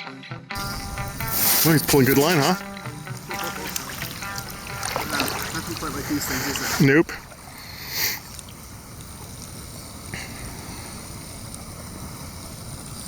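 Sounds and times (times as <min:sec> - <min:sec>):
flowing river water: 0:00.6 - 0:13.0.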